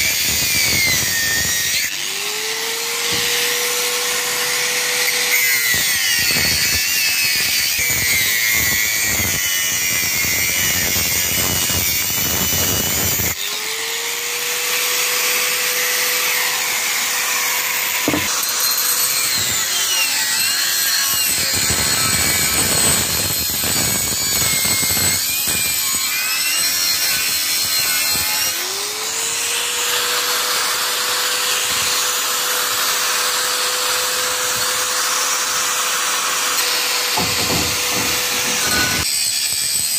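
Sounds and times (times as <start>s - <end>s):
angle grinder cutting steel pipe: 0.0s - 39.9s.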